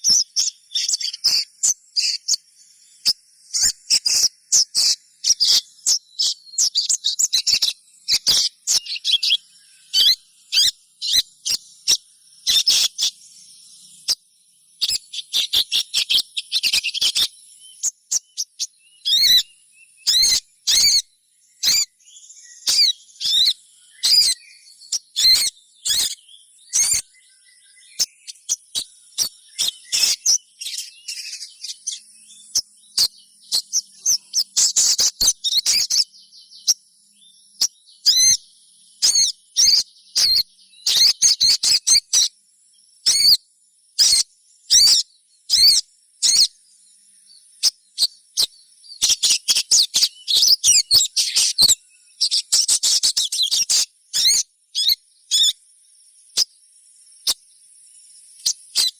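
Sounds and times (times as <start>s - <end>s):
bird chirping: 0.0s - 58.9s.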